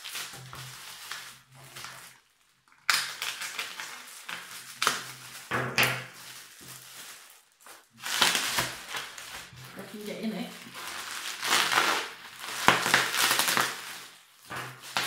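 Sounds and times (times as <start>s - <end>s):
bubble wrap crinkling: 0.0s - 15.0s.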